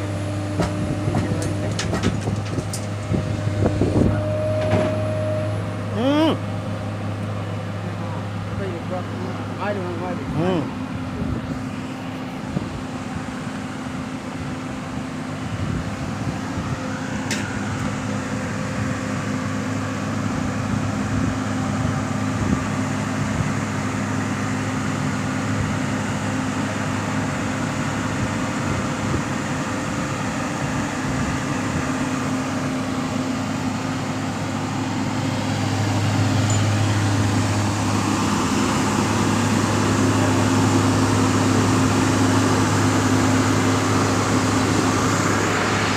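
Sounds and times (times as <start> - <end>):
machinery humming: 0.0 - 45.9.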